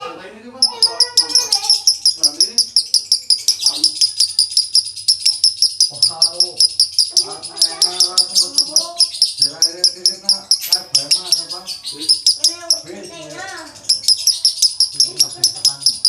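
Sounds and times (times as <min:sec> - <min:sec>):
lovebird rapid high chirps: 0:00.6 - 0:16.0.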